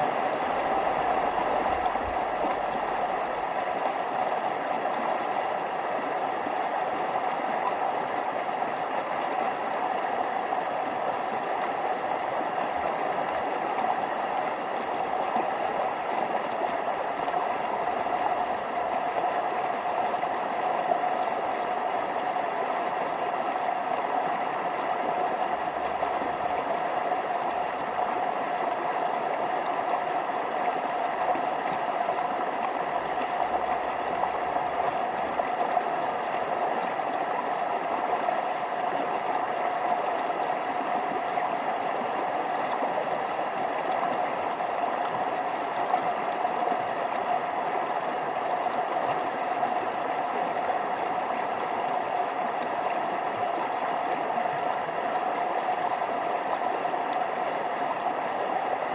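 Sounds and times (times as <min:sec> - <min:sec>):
stream flowing over waterfalls: 0:00.0 - 0:58.9.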